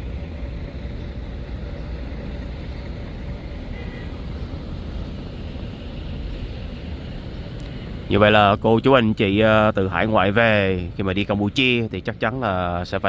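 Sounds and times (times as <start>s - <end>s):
bus engine rumble from inside: 0.0s - 13.0s.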